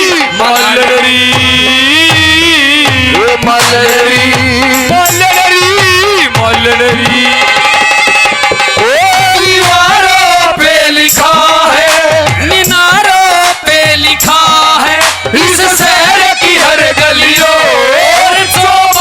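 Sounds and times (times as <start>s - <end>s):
hand drum rhythm: 0.0s - 19.0s.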